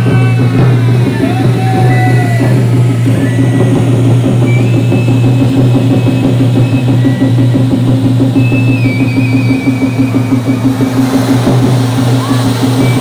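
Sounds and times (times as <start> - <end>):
firework fountain roaring: 0.0 - 13.0.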